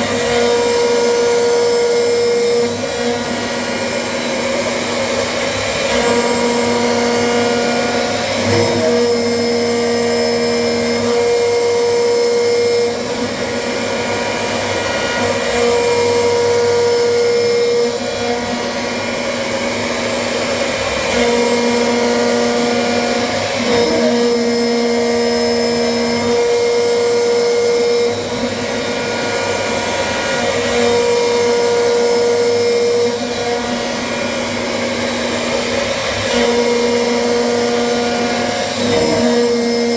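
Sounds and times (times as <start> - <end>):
cnc machine motor whir: 0.0 - 39.9.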